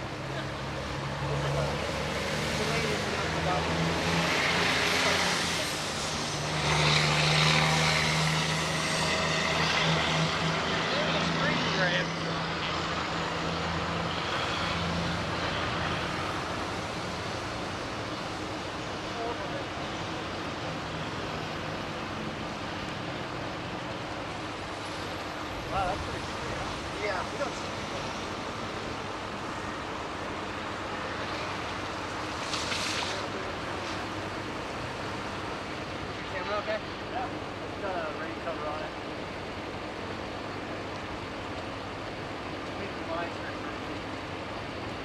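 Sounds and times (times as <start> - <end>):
steady rushing noise: 0.0 - 45.0.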